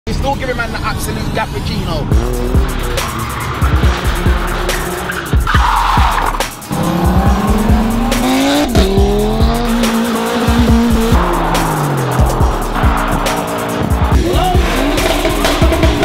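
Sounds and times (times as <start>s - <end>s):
car engine revving: 0.4s - 16.0s
music track with a beat: 2.1s - 16.0s.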